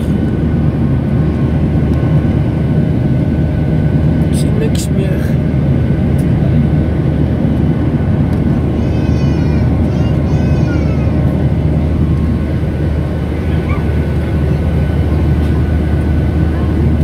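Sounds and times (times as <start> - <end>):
jet engine roar in cabin: 0.0 - 17.0.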